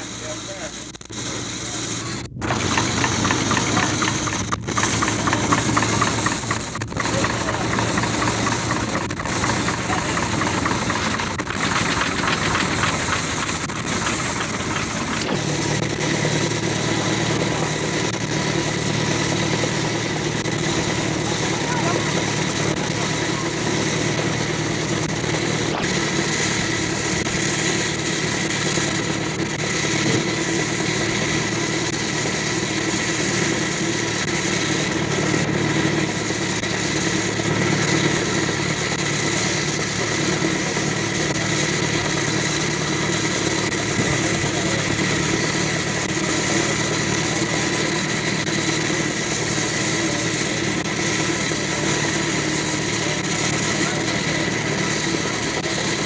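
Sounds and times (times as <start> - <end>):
steady engine drone: 0.0 - 56.0
whine of steady tones: 0.0 - 56.0.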